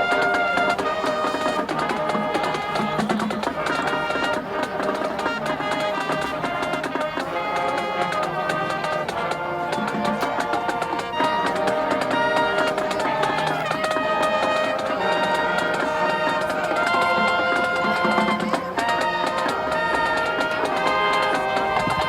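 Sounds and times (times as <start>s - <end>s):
marching band playing: 0.0s - 22.0s.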